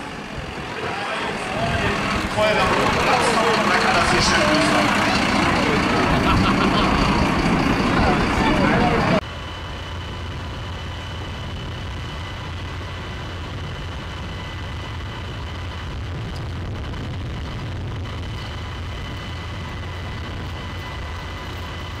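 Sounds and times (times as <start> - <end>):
diesel engine low rumble: 0.0 - 22.0.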